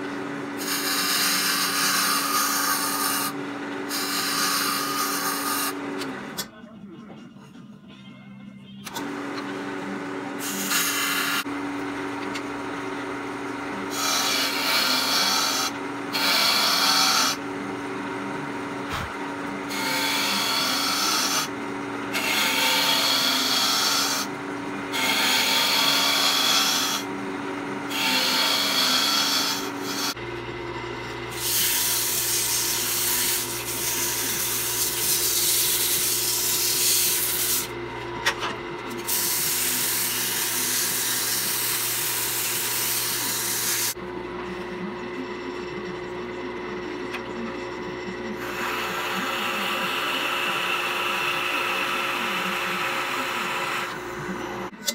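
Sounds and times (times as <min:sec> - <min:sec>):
wood lathe humming: 0:00.0 - 0:06.4, 0:09.0 - 0:38.2, 0:38.8 - 0:54.7
turning tool cutting wood: 0:00.0 - 0:06.5, 0:08.9 - 0:44.0, 0:48.3 - 0:54.9.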